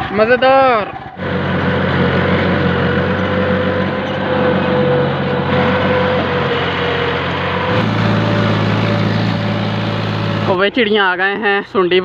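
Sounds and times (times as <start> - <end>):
diesel tractor engine running: 0.0 - 11.9.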